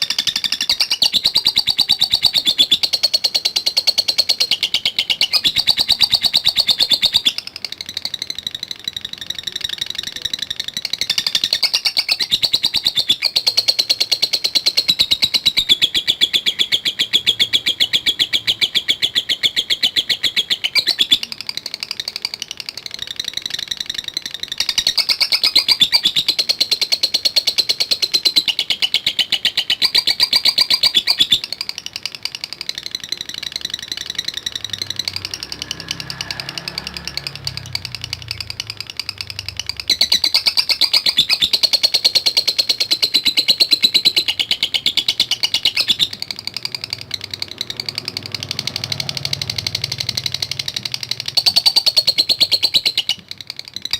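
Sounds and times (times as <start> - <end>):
bird rattling chatter: 0.0 - 16.0, 19.8 - 53.9.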